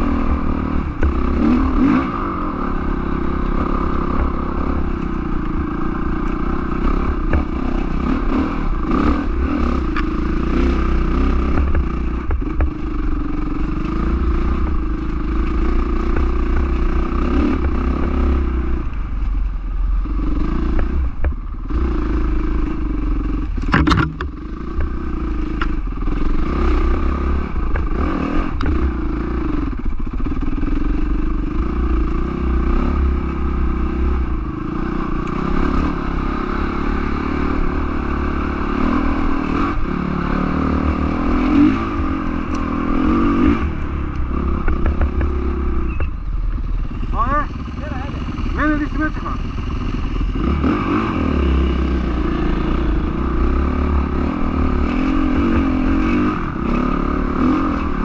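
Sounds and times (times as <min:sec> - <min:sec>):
dirt bike engine revving: 0:00.0 - 0:19.0, 0:19.9 - 0:58.0.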